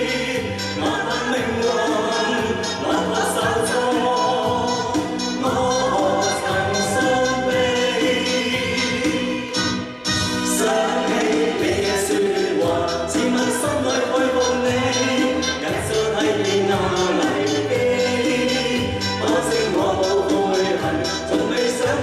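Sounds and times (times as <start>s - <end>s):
backing track with beat: 0.0s - 22.0s
group singing in unison: 0.0s - 22.0s.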